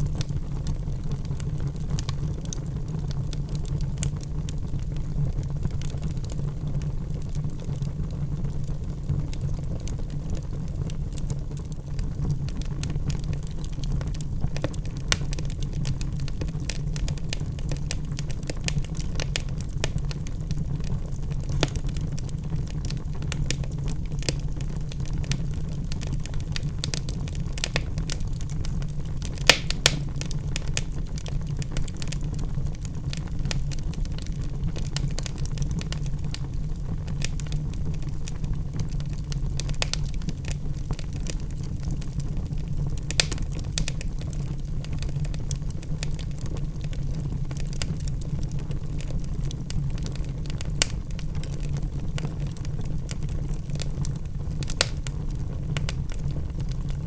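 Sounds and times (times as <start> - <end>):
fire rumbling: 0.0 - 57.0
logs crackling and popping: 0.0 - 57.0.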